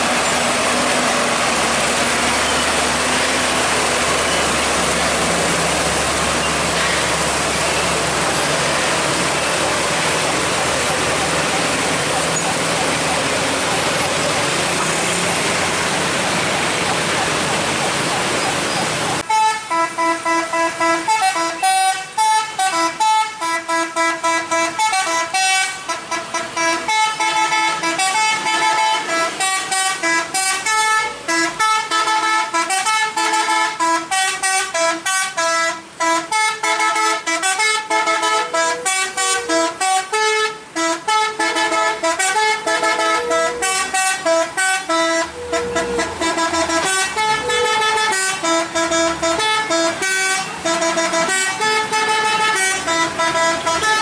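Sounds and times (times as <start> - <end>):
truck musical horn playing tune: 0.0 - 15.9, 19.1 - 54.0.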